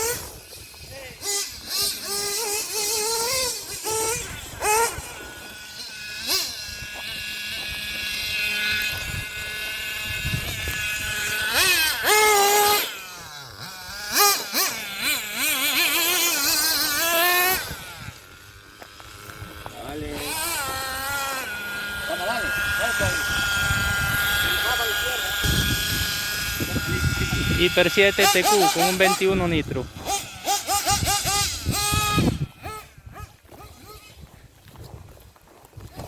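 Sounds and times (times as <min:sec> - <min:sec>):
model car engine revving: 0:00.0 - 0:34.2.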